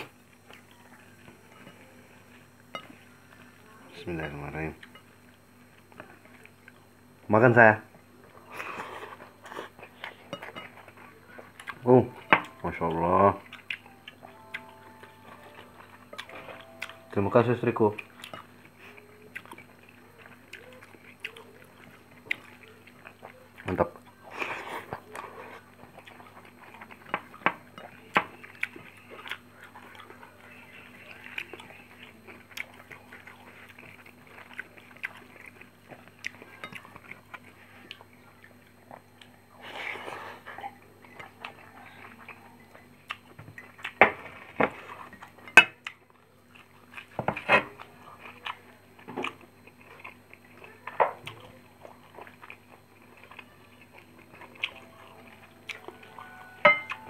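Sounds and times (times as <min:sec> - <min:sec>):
faint low hum: 0:00.0 - 0:57.0
chewing and mouth sounds: 0:08.3 - 0:57.0.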